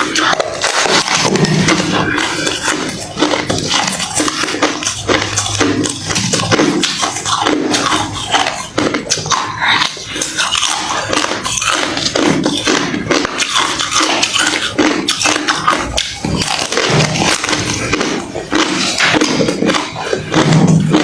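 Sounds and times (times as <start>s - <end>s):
chewing crushed ice: 0.0s - 21.0s.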